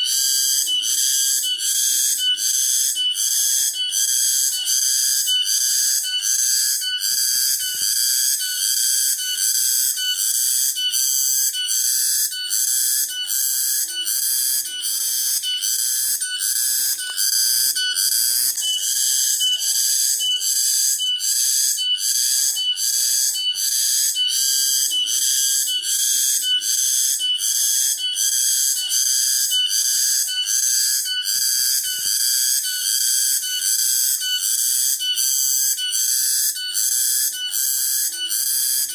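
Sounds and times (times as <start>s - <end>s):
cicadas pulsing drone: 0.0s - 38.9s.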